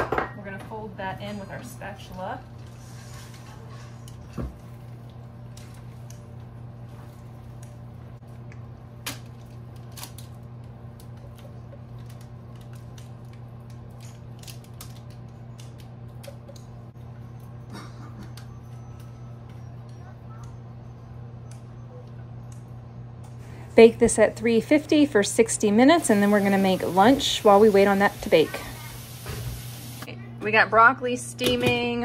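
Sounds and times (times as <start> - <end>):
steady low hum: 0.2 - 32.0.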